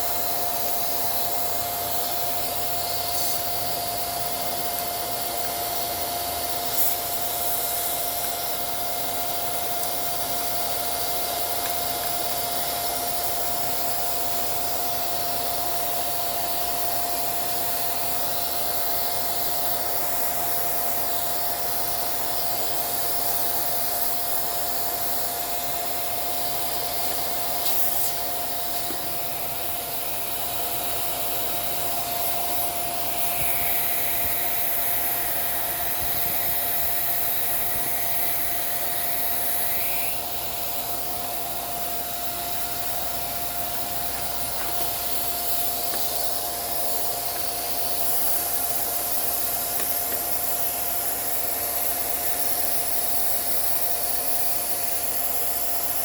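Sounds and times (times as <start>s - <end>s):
small vacuum cleaner whining: 0.0s - 56.0s.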